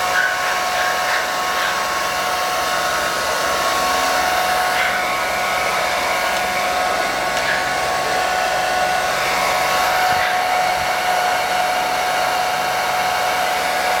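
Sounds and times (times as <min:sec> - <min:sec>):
blow dryer running: 0:00.0 - 0:14.0.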